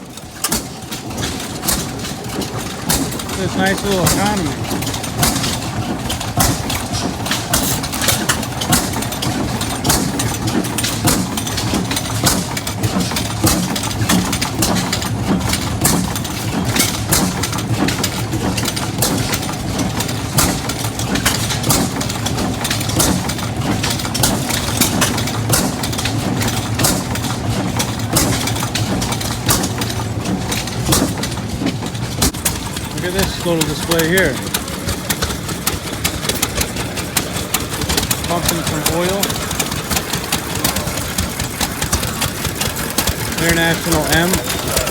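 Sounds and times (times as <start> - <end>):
low hum of engines: 0.0 - 44.9
sharp exhaust pops: 0.0 - 44.9
stationary gas engine running: 0.0 - 44.9.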